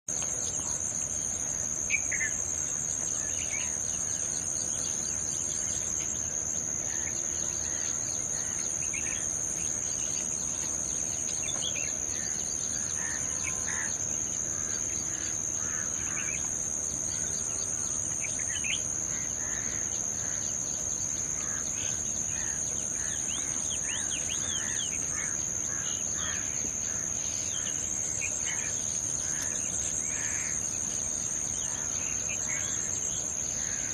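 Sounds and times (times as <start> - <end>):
insects droning: 0.1 - 33.9.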